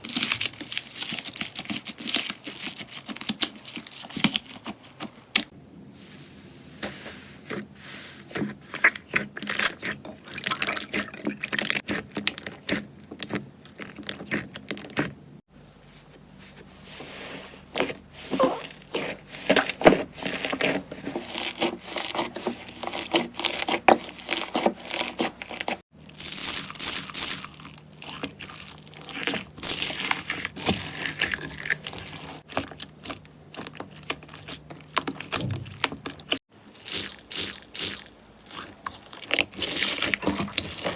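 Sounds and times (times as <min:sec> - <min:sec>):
slime crackling and squishing: 0:00.0 - 0:05.5, 0:07.4 - 0:15.3, 0:17.4 - 0:40.9.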